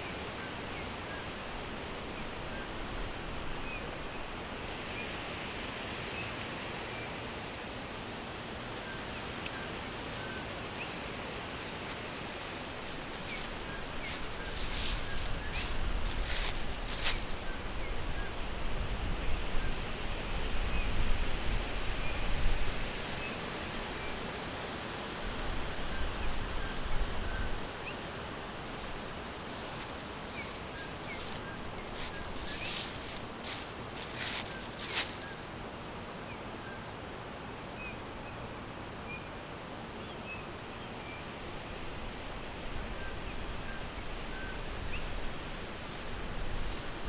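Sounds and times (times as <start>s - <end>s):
wind rustling leaves: 0.0s - 47.0s.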